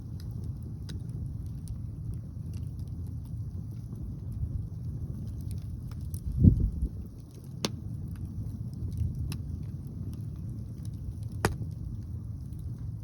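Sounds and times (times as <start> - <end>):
wind rumbling on microphone: 0.0 - 13.0
wood fire crackling and popping: 0.0 - 13.0.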